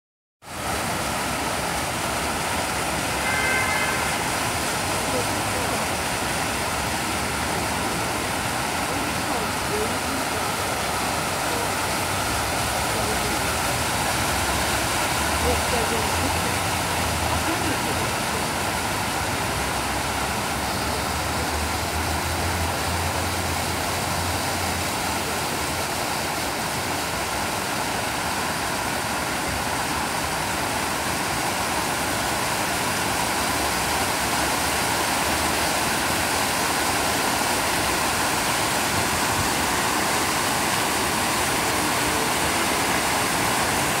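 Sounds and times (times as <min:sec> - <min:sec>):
fountain water splashing into basin: 0:00.4 - 0:44.0.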